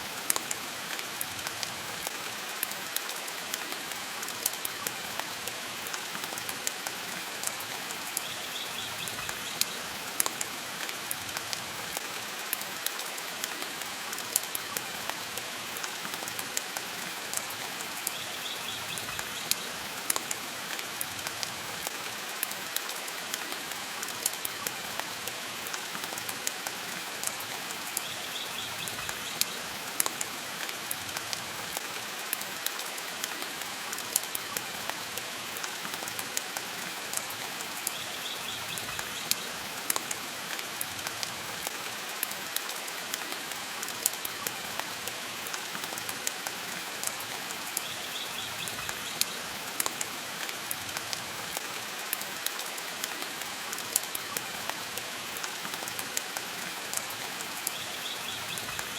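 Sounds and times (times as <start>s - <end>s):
rain hissing: 0.0s - 58.9s.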